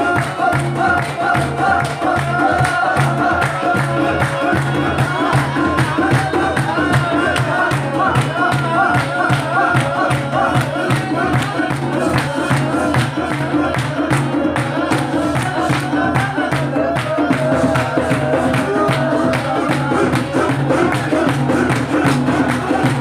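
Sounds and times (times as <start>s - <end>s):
hand drum: 0.0s - 23.0s
men clapping: 0.0s - 23.0s.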